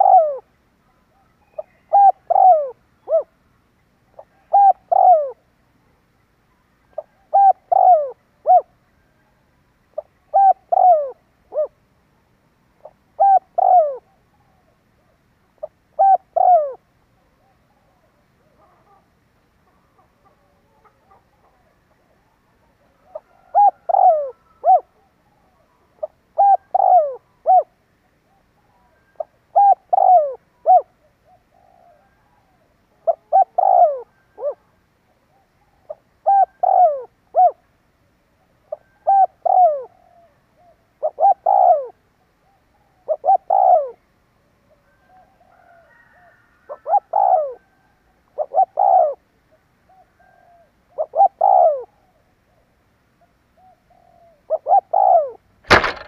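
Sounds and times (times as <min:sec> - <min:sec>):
dove cooing: 0:00.0 - 0:00.5, 0:01.1 - 0:03.4, 0:04.1 - 0:05.5, 0:06.8 - 0:11.8, 0:12.8 - 0:37.7, 0:38.4 - 0:56.0.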